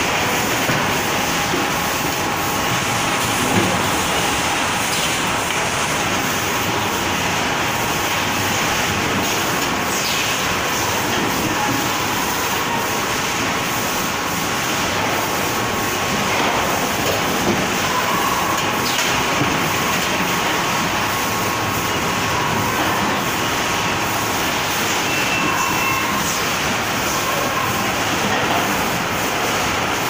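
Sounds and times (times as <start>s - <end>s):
packing machine running: 0.0s - 30.0s.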